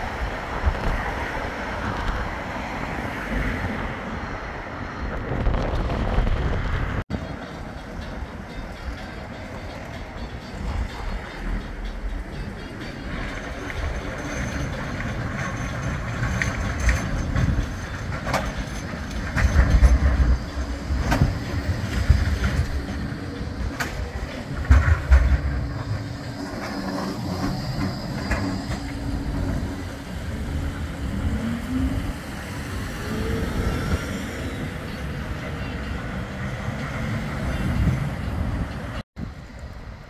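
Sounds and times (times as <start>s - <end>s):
tram bogies rumbling: 0.0s - 40.0s
tram wheels clicking over rail joints: 5.0s - 39.8s.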